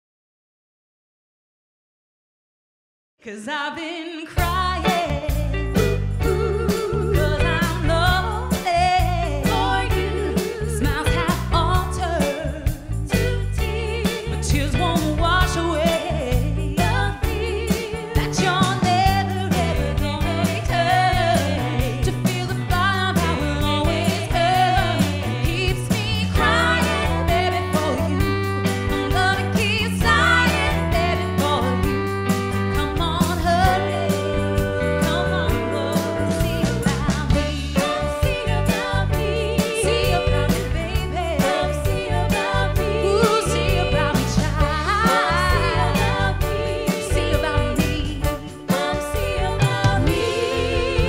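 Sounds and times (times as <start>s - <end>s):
soul-pop song: 3.2s - 51.0s
women singing: 3.3s - 51.0s
steady drum beat: 4.4s - 51.0s.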